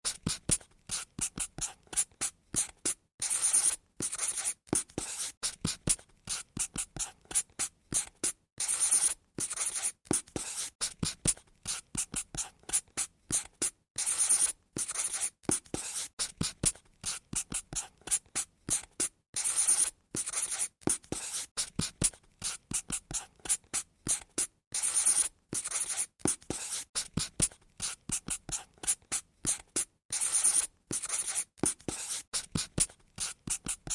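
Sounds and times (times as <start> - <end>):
pen scratching on paper: 0.1 - 33.9.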